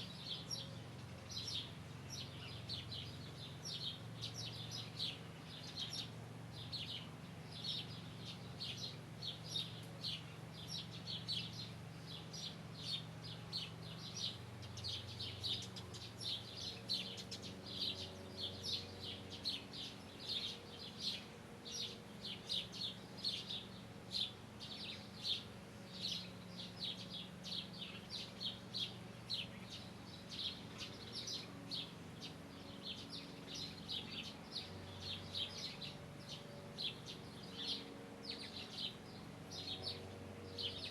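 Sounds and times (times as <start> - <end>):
faint low hum: 0.0 - 40.9
small birds chirping: 0.0 - 40.9.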